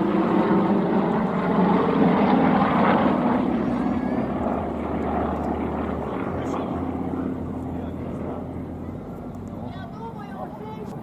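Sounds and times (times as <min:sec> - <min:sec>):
propeller aircraft droning: 0:00.0 - 0:11.0.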